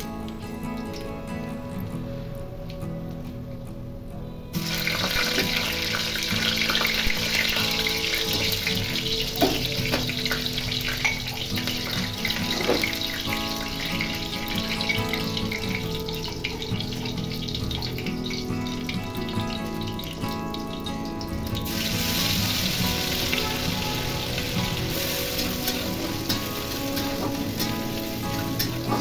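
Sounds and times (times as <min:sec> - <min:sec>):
chillies sizzling in hot oil: 0:04.5 - 0:29.0
oil popping: 0:04.6 - 0:29.0.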